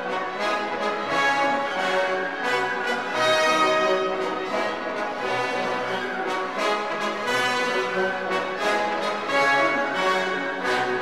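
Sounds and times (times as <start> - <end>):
orchestral music with brass: 0.0 - 11.0.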